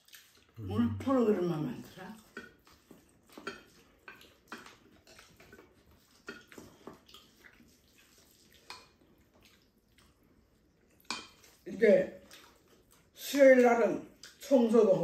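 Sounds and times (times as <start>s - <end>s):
wet chewing and lip-smacking: 0.0s - 0.6s, 1.8s - 13.2s, 14.0s - 14.5s.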